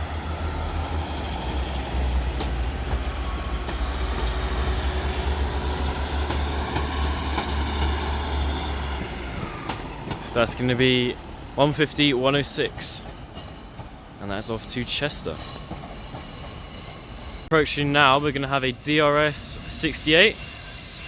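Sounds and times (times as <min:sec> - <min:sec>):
diesel train engines rumbling: 0:00.0 - 0:21.0.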